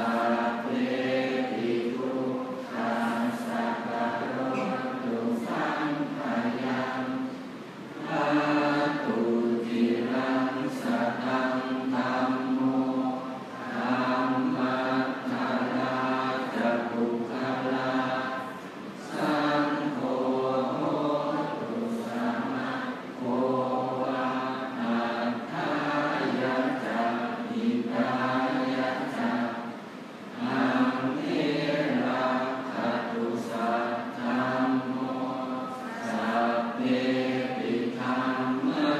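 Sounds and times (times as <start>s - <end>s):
monks chanting in unison: 0.0s - 38.9s.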